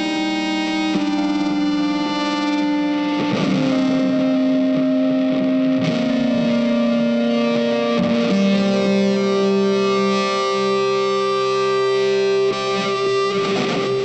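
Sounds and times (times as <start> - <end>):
distorted electric guitar notes: 0.0 - 14.0.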